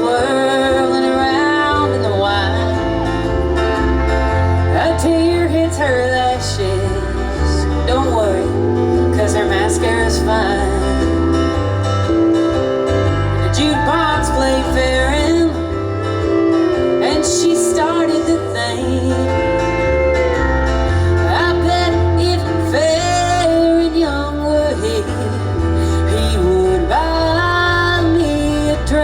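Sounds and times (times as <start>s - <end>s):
country band playing: 0.0s - 29.0s
lead guitar with bending notes: 0.0s - 29.0s.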